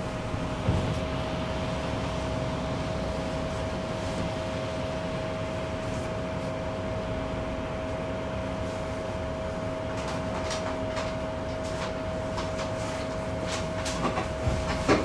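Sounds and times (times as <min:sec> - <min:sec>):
tram humming and whining: 0:00.0 - 0:15.0.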